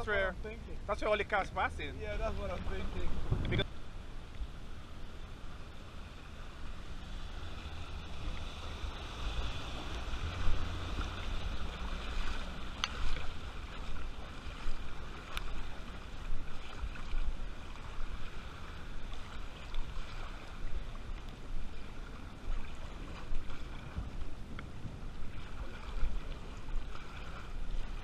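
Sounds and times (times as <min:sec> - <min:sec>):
car low rumble: 0:00.0 - 0:28.0
floodwater sloshing: 0:01.1 - 0:28.0.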